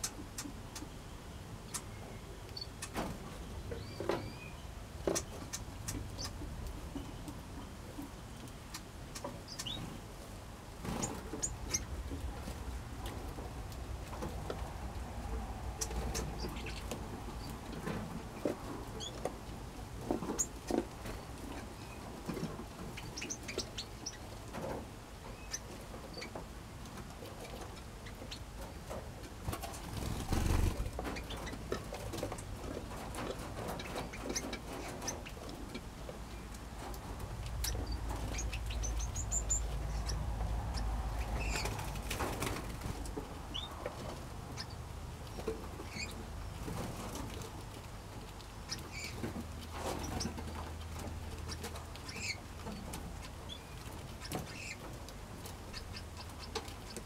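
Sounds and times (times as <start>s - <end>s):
small birds chirping and calling: 0.0s - 10.0s, 10.8s - 13.4s, 14.0s - 19.3s, 20.0s - 26.5s, 27.1s - 57.0s.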